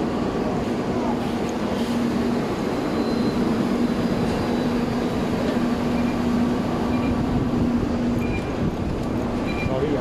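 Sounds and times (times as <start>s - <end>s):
diesel bus engine idling: 0.0s - 10.0s.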